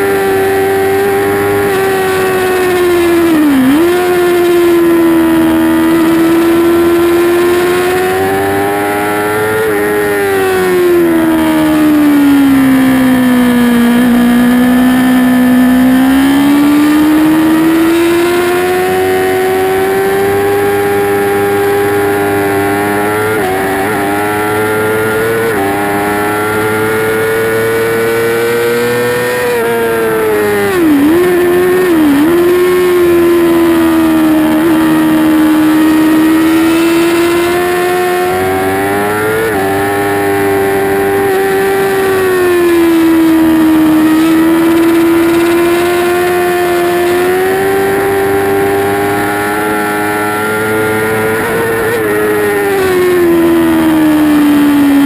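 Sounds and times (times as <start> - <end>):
motorcycle engine at high revs: 0.0 - 55.0.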